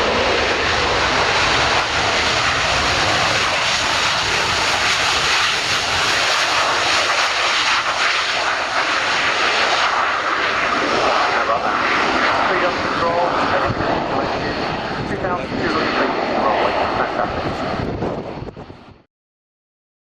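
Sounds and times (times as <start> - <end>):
jet aircraft engine roar: 0.0 - 19.1.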